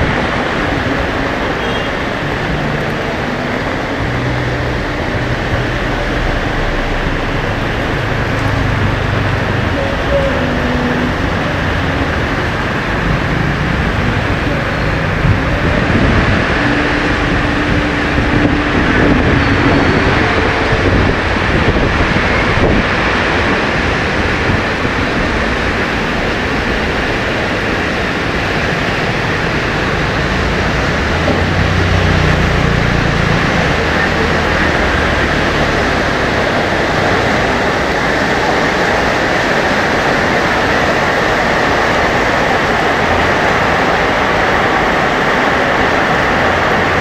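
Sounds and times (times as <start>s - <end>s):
heavy rain falling: 0.0s - 47.0s
low rumble of traffic: 0.0s - 47.0s
vehicle passing: 0.0s - 47.0s.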